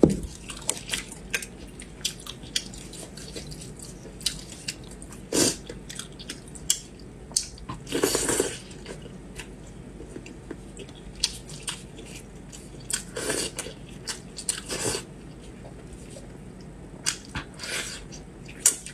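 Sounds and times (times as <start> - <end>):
person chewing wetly: 0.3 - 16.3.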